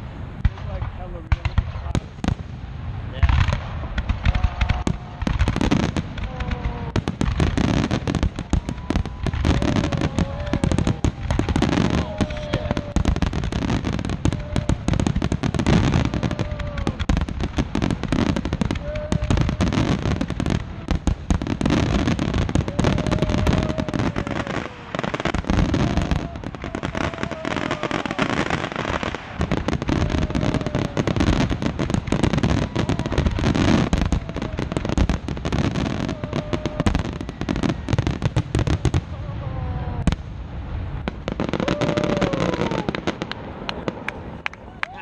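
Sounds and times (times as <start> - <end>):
firework crackle: 0.0 - 45.0.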